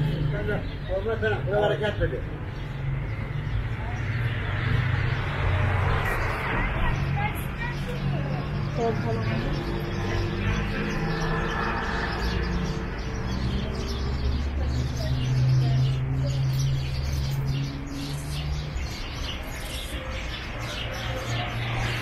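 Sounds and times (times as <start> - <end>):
birds chirping: 0.0 - 22.0
street noise: 0.0 - 22.0.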